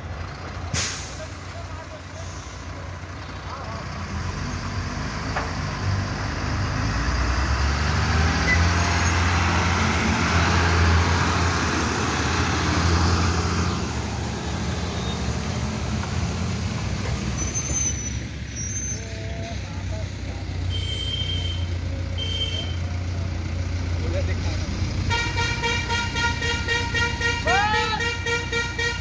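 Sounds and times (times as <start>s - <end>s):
dump truck engine passing: 0.0s - 29.0s.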